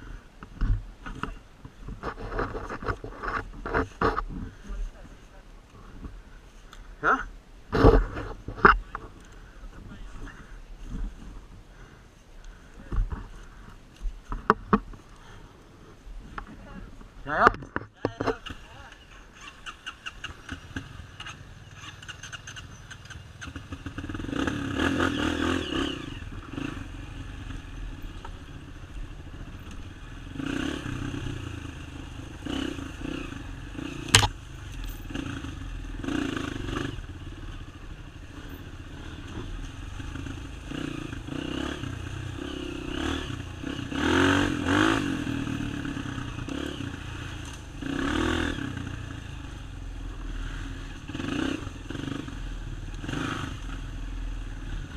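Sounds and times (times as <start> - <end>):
off-road motorcycle engine revving: 0.0 - 13.6, 16.2 - 54.9.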